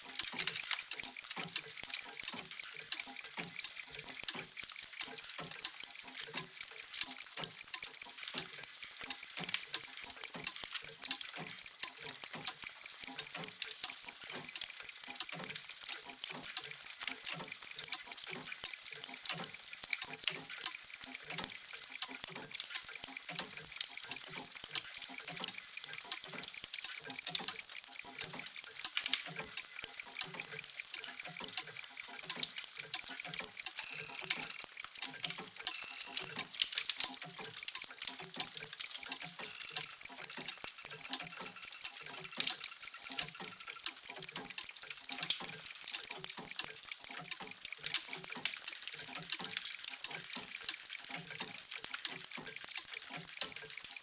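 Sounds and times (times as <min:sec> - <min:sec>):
many clocks ticking: 0:00.0 - 0:54.0.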